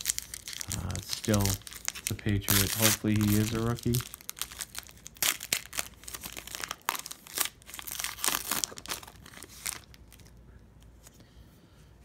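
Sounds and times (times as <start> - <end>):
foil wrapper crinkling: 0.0 - 10.4.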